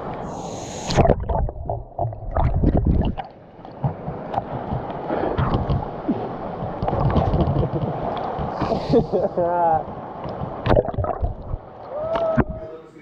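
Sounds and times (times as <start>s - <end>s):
wind rumble on microphone: 0.9s - 9.0s, 9.8s - 12.7s
water sloshing and splashing: 0.9s - 12.6s.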